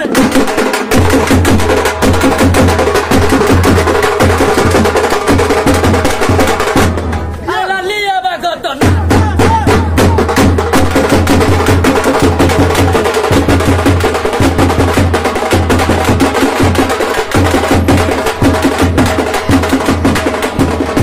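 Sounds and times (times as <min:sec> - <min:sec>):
fast percussion music: 0:00.0 - 0:07.5, 0:08.5 - 0:21.0.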